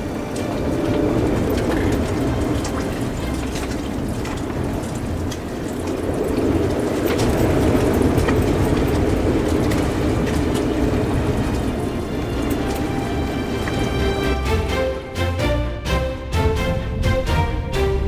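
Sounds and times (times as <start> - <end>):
strong wind rushing: 0.0 - 18.0.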